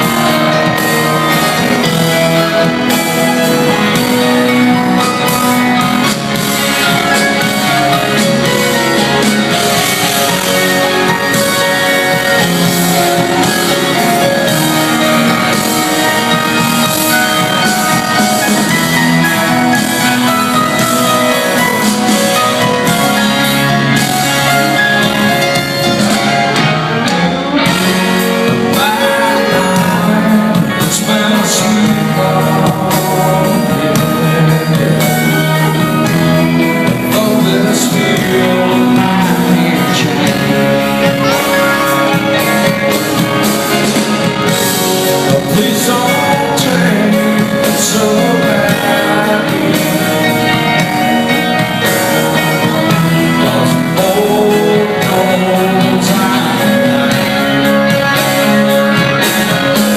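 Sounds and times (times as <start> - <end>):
electric guitars: 0.0 - 59.9
steady drum beat: 0.0 - 59.9.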